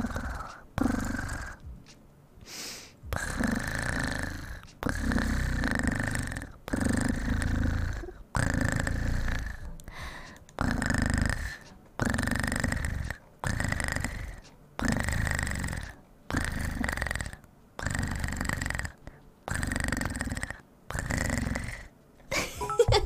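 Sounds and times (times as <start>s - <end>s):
woman imitating cat purr: 0.0s - 1.6s, 3.2s - 9.7s, 10.6s - 21.9s.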